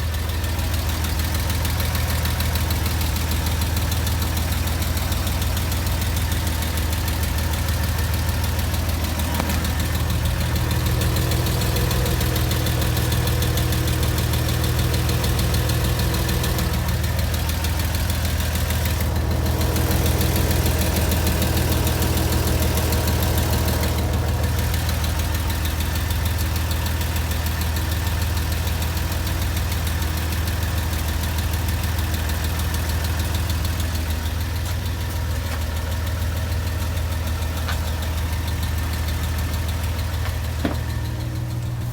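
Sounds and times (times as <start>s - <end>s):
car engine idling: 0.0s - 41.9s
fast engine ticking: 0.0s - 41.9s.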